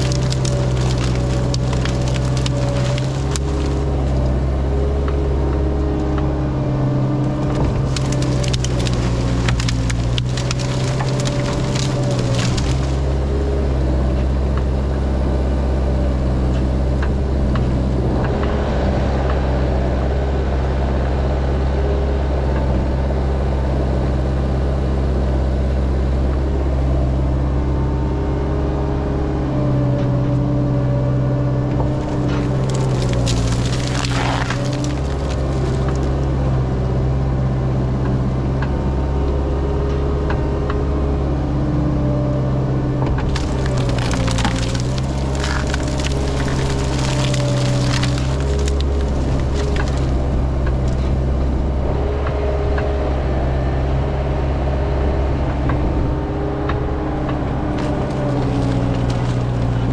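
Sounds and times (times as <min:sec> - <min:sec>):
wood cracking and splintering: 0:00.0 - 0:19.7, 0:24.5 - 0:54.6, 0:55.4 - 0:59.9
diesel engine running: 0:00.0 - 0:59.9.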